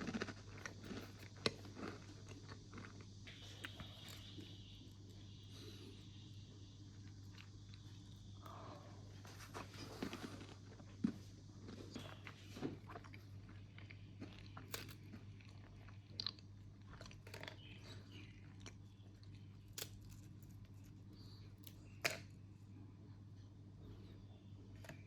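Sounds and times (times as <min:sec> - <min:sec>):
chewing crunchy food: 0:00.0 - 0:04.8, 0:06.9 - 0:22.4
low steady hum: 0:00.0 - 0:25.0.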